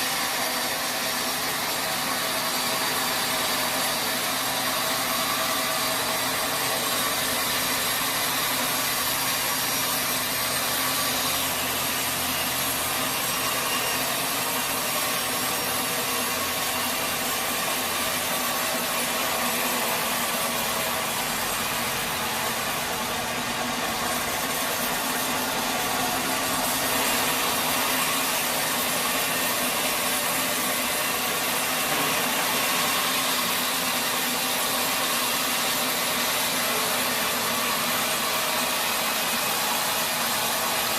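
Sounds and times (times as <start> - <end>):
saw blade cutting through log: 0.0 - 40.9.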